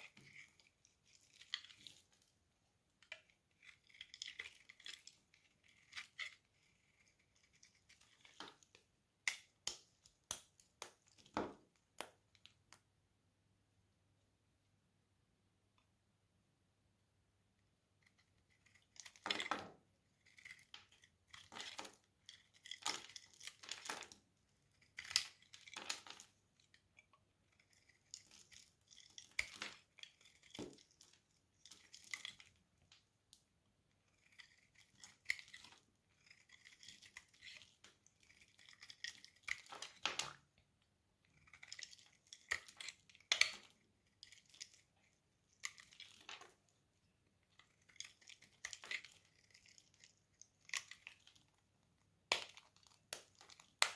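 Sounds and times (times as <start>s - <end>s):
blade cutting dry soap: 0.0s - 12.8s, 18.0s - 53.9s.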